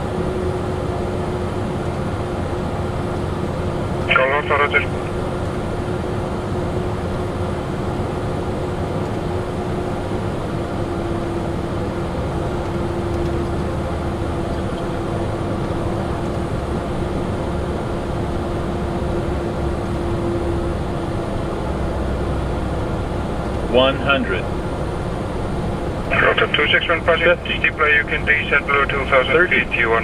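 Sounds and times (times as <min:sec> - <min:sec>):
constant droning tone: 0:00.0 - 0:30.0
jet engine hum: 0:00.0 - 0:30.0.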